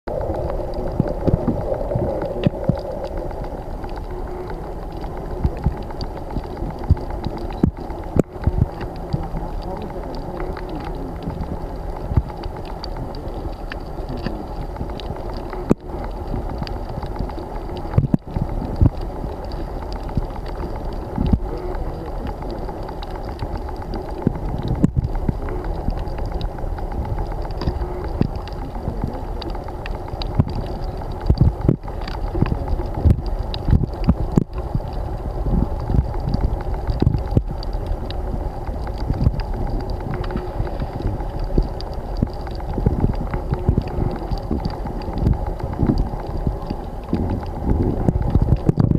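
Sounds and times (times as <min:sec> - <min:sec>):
low underwater rumble: 0:00.0 - 0:48.9.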